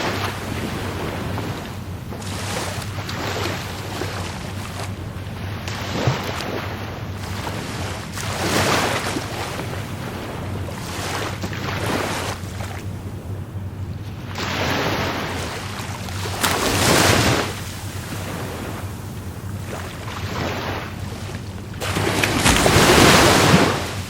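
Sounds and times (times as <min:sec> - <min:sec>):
waves breaking on shore: 0:00.0 - 0:24.0.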